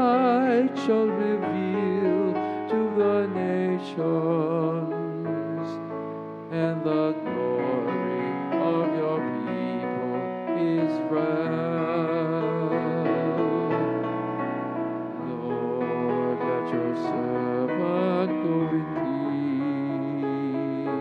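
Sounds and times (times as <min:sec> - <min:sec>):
keyboard accompaniment: 0:00.0 - 0:21.0
person singing hymn with vibrato: 0:00.0 - 0:21.0.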